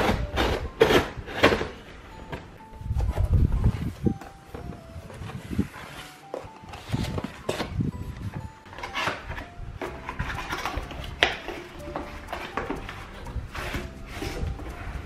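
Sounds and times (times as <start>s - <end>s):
cardboard rustling and scraping: 0.0s - 7.8s, 8.7s - 15.0s.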